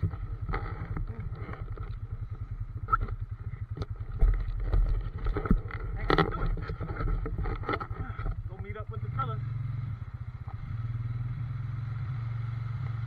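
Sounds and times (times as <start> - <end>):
atv engine chugging: 0.0 - 13.0.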